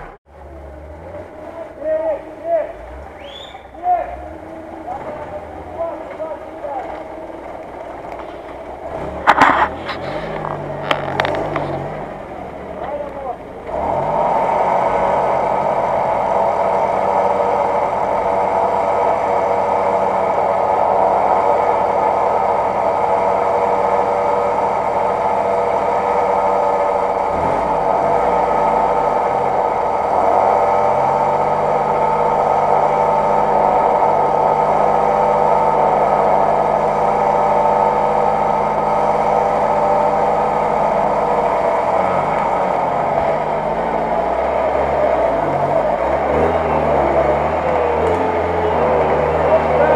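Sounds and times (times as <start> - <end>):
off-road vehicle engine straining: 0.0 - 49.9.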